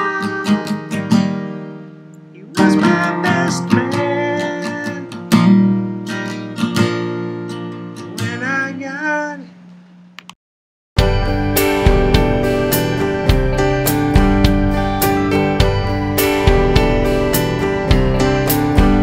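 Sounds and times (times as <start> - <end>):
acoustic guitar strumming chords: 0.0 - 9.7, 11.0 - 19.0.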